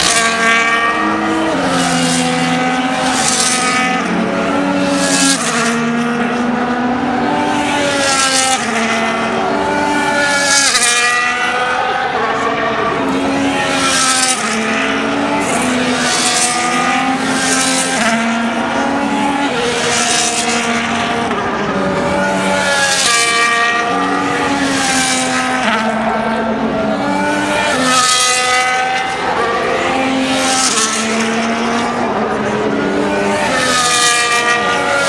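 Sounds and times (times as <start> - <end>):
race cars passing: 0.0 - 35.0.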